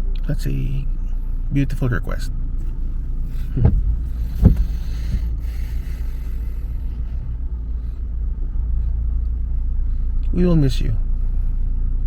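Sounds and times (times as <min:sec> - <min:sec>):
moving car rumble: 0:00.0 - 0:12.0.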